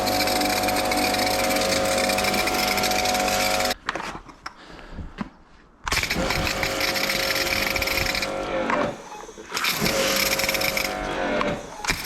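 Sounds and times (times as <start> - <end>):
pressure washer running: 0.0 - 3.8, 6.0 - 12.0.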